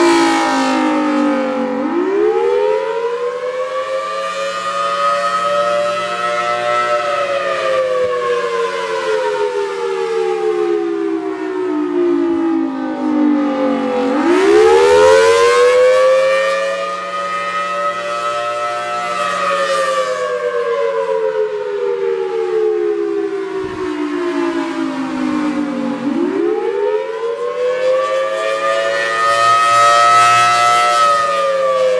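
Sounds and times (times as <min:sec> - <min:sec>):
two-tone warning siren: 0:00.0 - 0:31.9.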